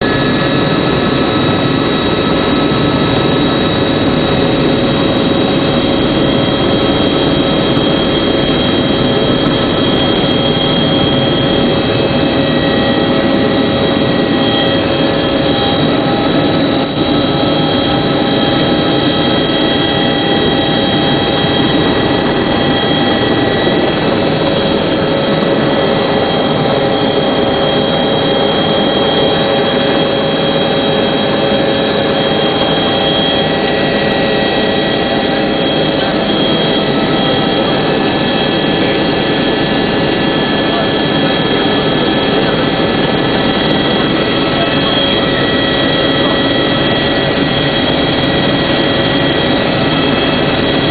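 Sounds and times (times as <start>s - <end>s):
loud engine drone: 0.0s - 50.9s
steady tones: 2.1s - 50.9s.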